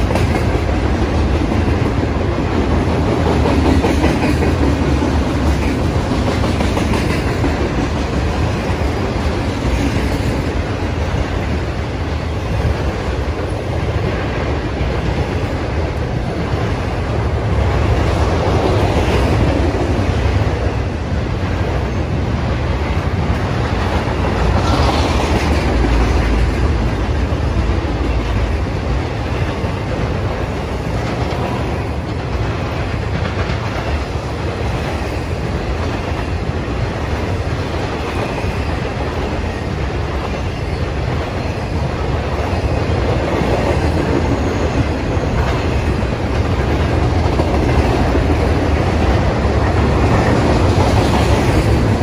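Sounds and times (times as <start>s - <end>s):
freight train wheels rumbling on rails: 0.0s - 52.0s.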